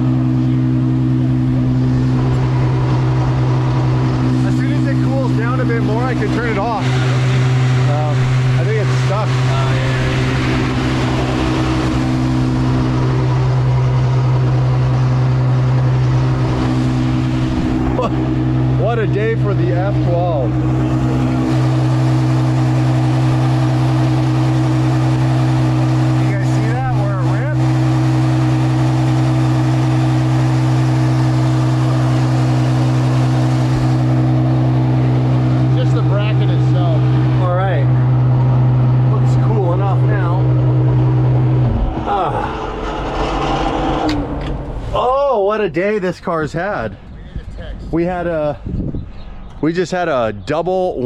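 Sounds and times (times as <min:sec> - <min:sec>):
car engine idling: 0:00.0 - 0:47.5.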